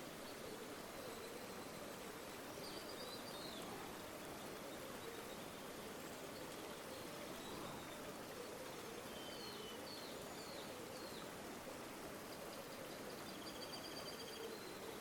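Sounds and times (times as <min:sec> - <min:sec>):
faint bird chirps: 0:00.2 - 0:11.3, 0:12.2 - 0:15.0.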